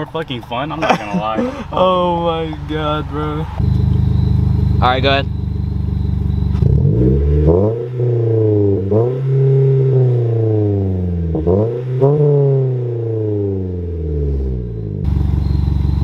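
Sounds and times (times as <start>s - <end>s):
car engine revving: 0.1s - 16.0s.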